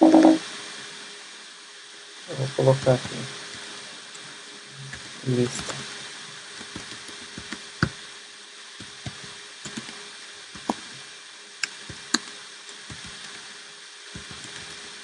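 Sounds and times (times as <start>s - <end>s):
steady hiss and hum: 0.0s - 15.0s.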